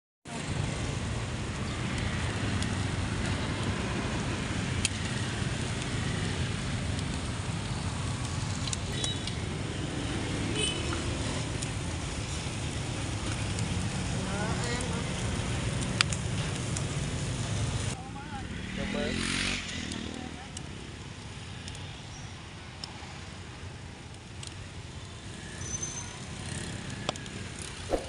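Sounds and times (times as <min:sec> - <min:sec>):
motor traffic rumble: 0:00.3 - 0:28.0.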